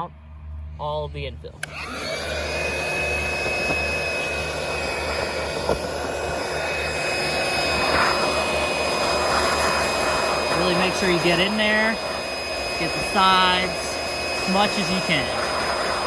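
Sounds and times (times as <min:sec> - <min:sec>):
handheld vacuum whining: 0:01.6 - 0:16.0.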